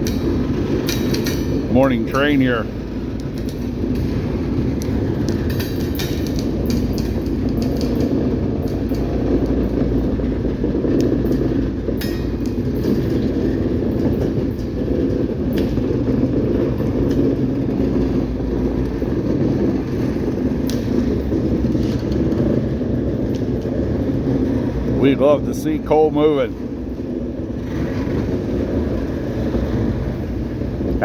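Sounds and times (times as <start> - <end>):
train cars rumbling on rails: 0.0 - 31.0
train wheels clicking: 0.0 - 31.0.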